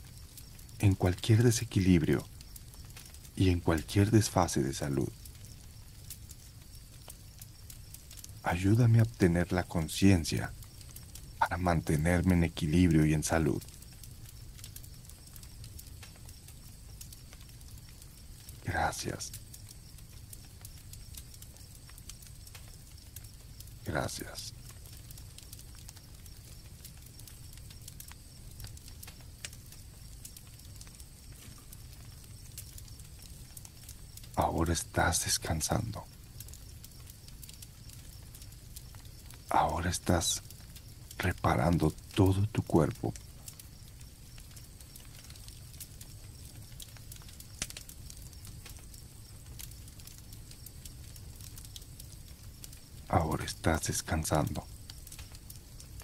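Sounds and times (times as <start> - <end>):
campfire crackling: 0.0 - 56.0
crickets chirring: 0.0 - 56.0
low rumble of burning fire: 0.0 - 56.0.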